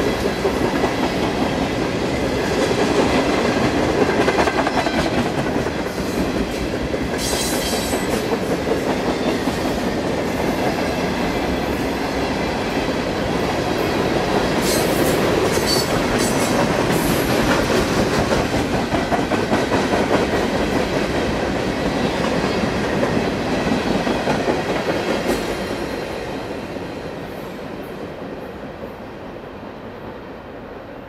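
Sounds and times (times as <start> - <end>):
freight train wheels on rails: 0.0 - 31.0.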